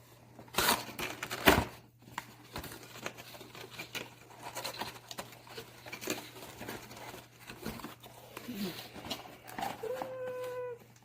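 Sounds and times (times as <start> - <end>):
packaging crinkling: 0.5 - 11.0.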